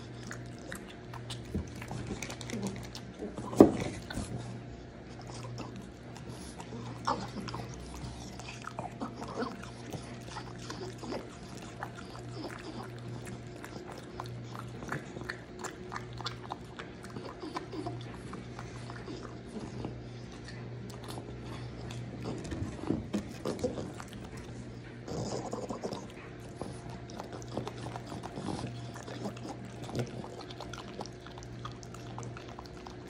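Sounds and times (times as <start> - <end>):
dog licking and smacking lips: 0.0 - 33.0.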